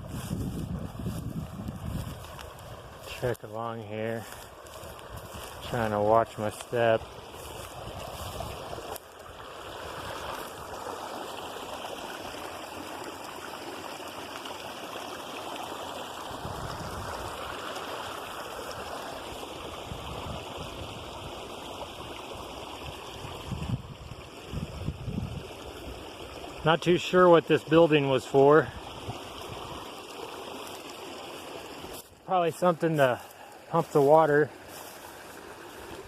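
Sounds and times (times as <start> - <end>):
creek water running: 0.0 - 36.0.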